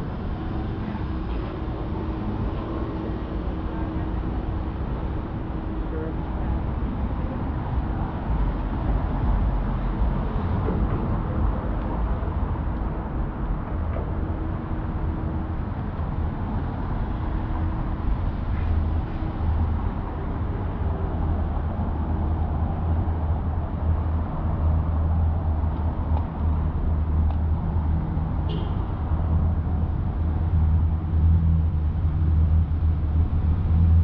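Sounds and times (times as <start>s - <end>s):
traffic engine hum: 0.0s - 34.0s.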